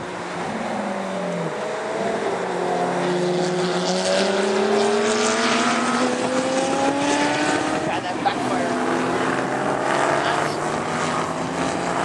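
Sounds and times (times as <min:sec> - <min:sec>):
sports car engines passing: 0:00.0 - 0:12.0.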